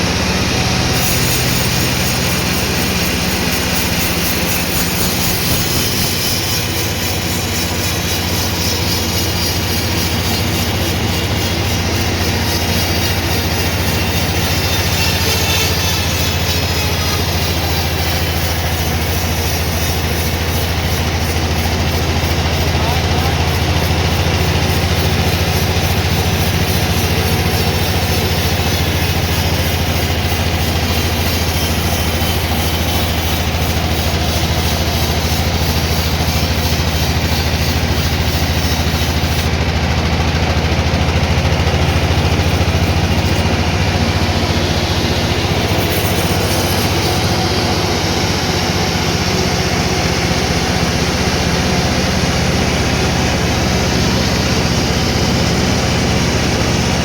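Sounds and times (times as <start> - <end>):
heavy engine low drone: 0.0 - 57.0.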